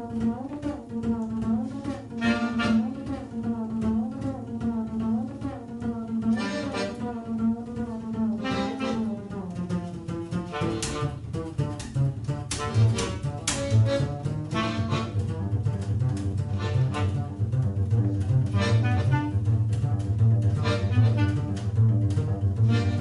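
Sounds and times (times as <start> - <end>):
double bass walking line: 0.0 - 23.0.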